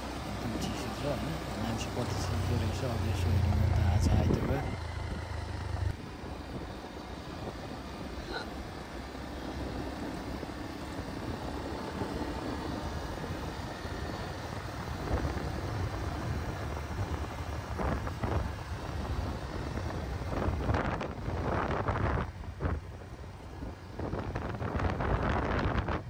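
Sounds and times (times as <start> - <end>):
motorcycle running: 0.0 - 26.0
road noise: 0.0 - 26.0
wind buffeting microphone: 3.0 - 8.2, 9.6 - 26.0.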